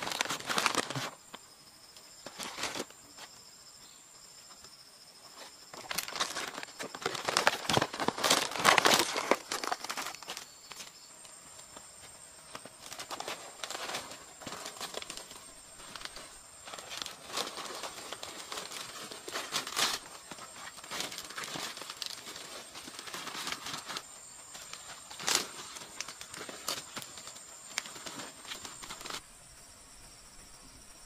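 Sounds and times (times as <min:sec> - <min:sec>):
large leaves rustling: 0:00.0 - 0:01.4, 0:02.1 - 0:03.4, 0:05.2 - 0:30.6.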